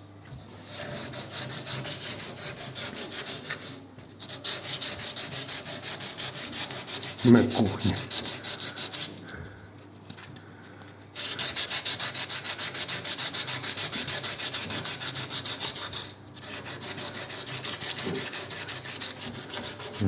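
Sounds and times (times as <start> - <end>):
hands rubbing: 2.6 - 20.0.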